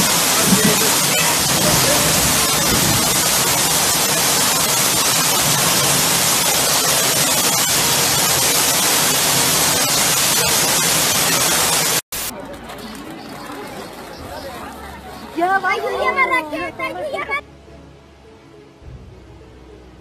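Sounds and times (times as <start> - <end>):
torrential rain in strong wind: 0.0 - 17.1.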